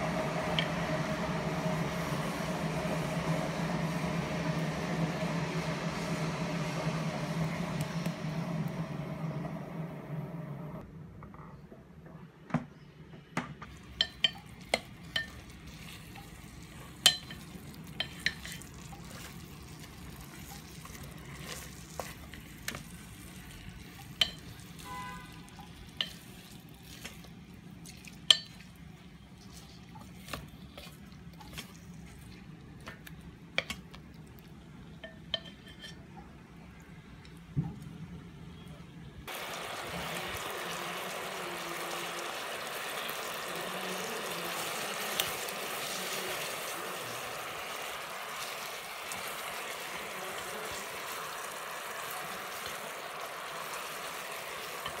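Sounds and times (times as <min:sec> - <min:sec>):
faint sizzle: 0:00.0 - 0:10.9, 0:13.6 - 0:55.0.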